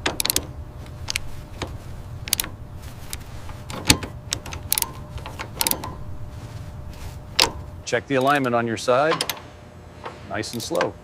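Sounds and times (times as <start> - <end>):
tools and metal parts clicking: 0.0 - 6.2, 7.3 - 11.0
low hum: 0.0 - 10.6.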